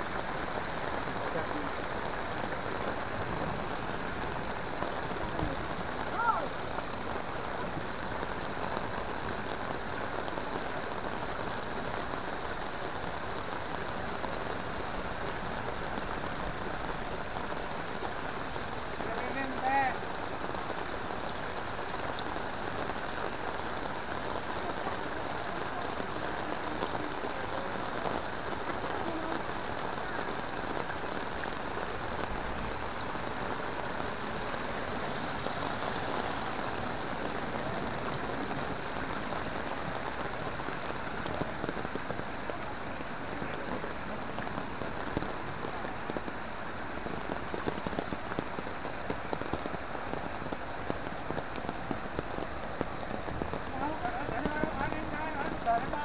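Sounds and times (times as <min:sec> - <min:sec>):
heavy rain splashing on pond: 0:00.0 - 0:56.0.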